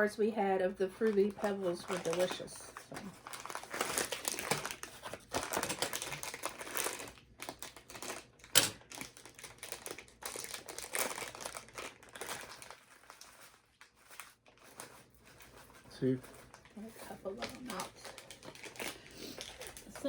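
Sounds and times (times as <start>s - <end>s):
plastic wrapper crinkling: 1.0s - 20.0s.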